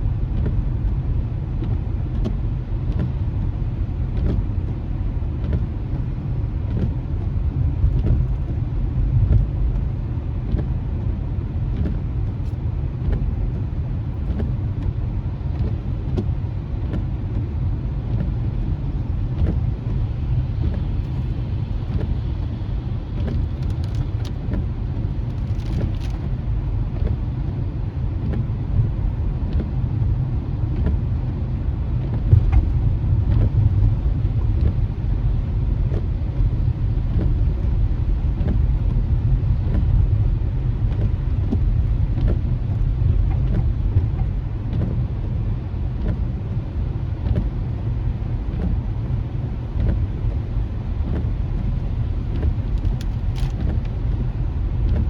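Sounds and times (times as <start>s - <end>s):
car road noise on wet streets: 0.0s - 55.0s.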